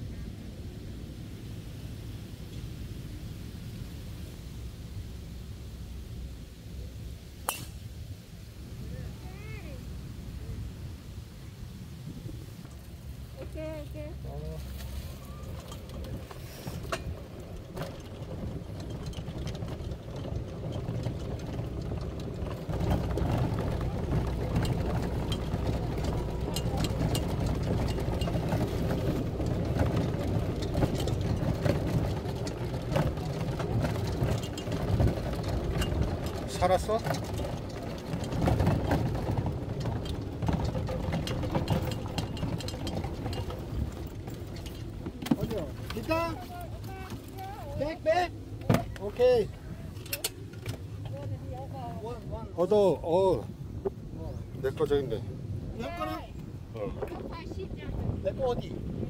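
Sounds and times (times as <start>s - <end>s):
golf cart rumbling: 0.0s - 59.0s.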